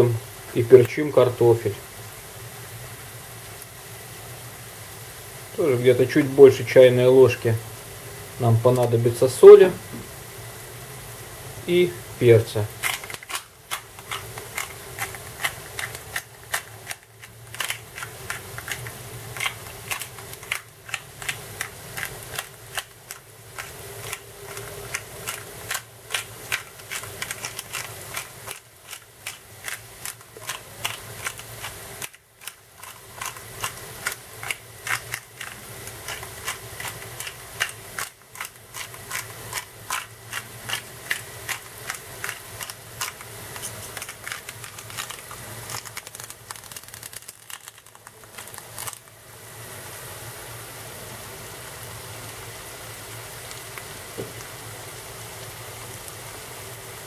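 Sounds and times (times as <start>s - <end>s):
potatoes frying in hot oil: 0.0s - 57.0s.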